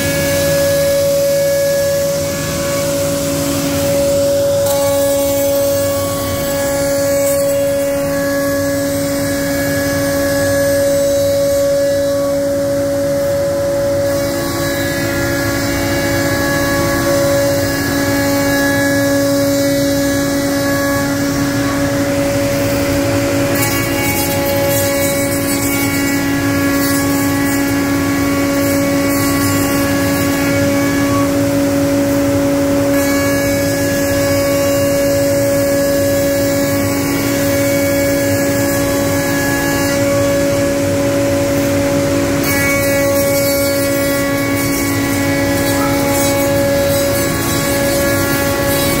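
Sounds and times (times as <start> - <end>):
router spindle whine: 0.0 - 49.0.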